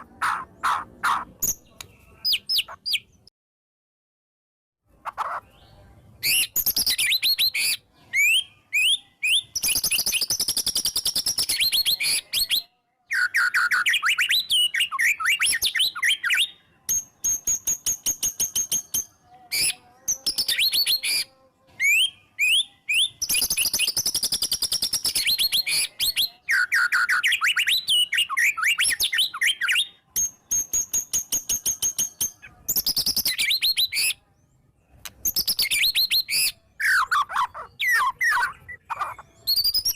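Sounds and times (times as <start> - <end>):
songbird singing: 0.0 - 3.3, 4.9 - 39.9.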